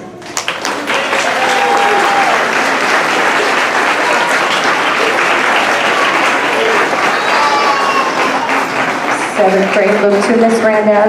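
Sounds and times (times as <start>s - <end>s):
audience applauding: 0.2s - 11.0s.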